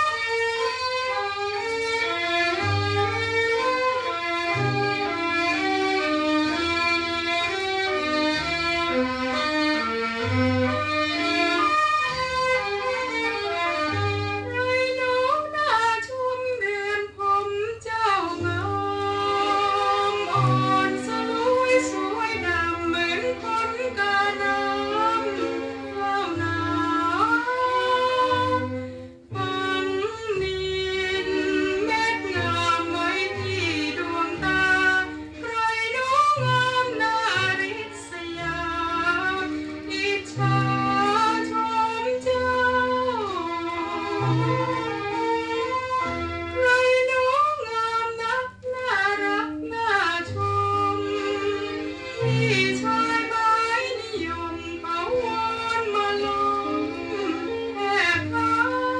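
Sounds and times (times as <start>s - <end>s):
violins playing melody: 0.0s - 58.9s.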